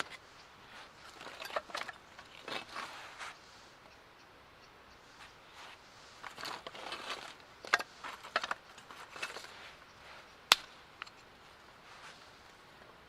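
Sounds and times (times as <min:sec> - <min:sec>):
rustling: 0:00.0 - 0:03.8, 0:05.0 - 0:12.8.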